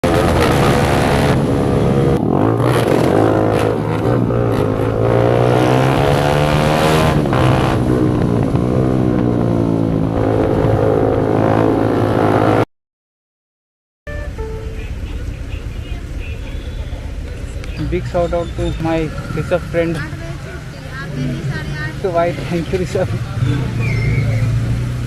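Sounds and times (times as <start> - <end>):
motorcycle engine revving: 0.0 - 12.7, 14.8 - 25.0.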